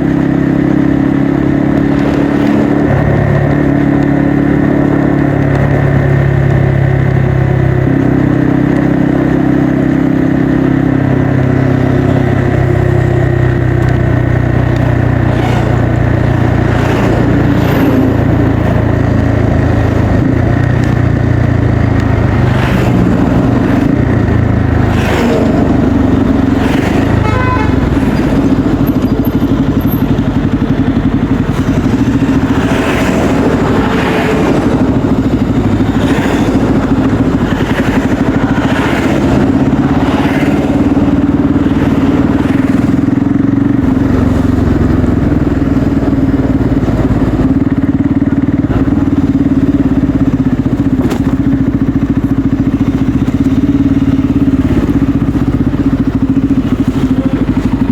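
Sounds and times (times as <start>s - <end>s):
motorcycle engine and exhaust running: 0.0s - 57.9s.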